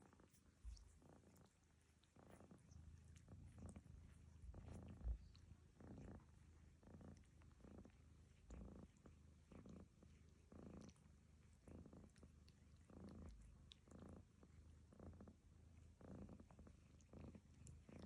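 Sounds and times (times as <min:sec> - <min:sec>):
cat licking its fur: 0:00.0 - 0:18.0
cat snoring softly: 0:02.1 - 0:18.0.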